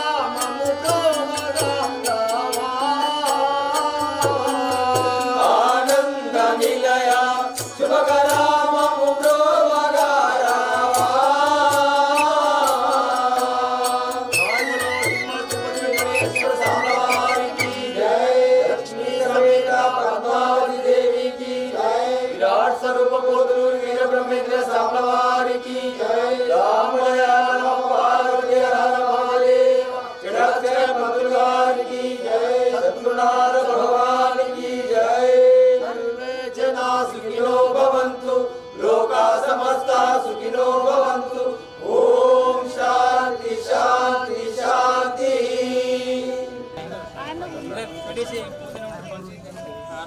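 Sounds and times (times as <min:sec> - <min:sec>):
prayer chant singing: 0:00.0 - 0:50.0.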